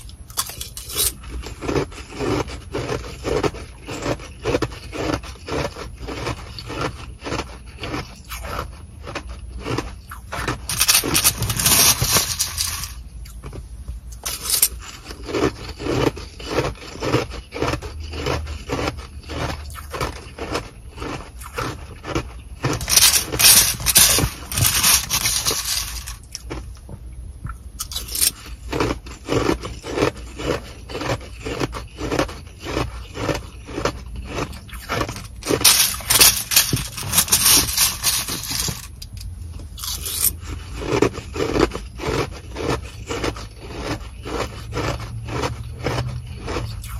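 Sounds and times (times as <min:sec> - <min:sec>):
plastic spoon scooping ice: 0:00.0 - 0:26.6, 0:27.8 - 0:46.9
chewing crunchy ice: 0:00.0 - 0:46.9.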